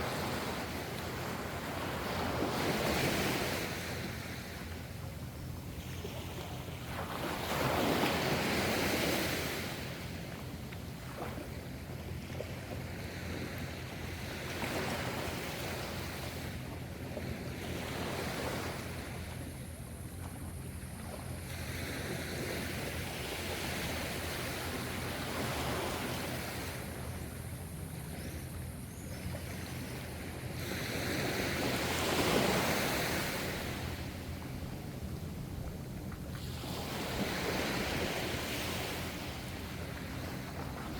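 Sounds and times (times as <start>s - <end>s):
sea waves breaking and washing: 0.0s - 40.9s.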